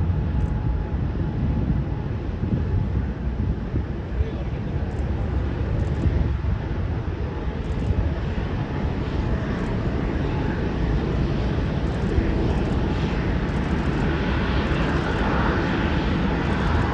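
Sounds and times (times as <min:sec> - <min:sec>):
jet engines at takeoff thrust: 0:00.0 - 0:16.9.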